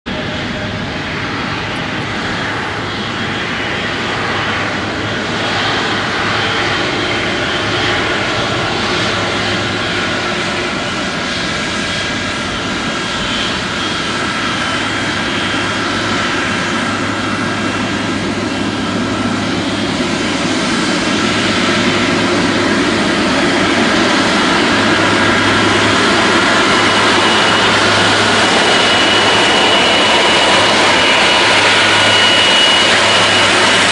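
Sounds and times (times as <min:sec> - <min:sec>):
jet engines roaring: 0:00.1 - 0:33.9.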